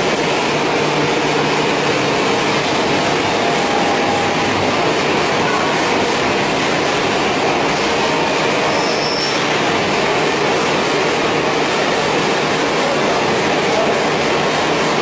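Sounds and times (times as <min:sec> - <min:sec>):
conveyor machinery din: 0:00.0 - 0:15.0.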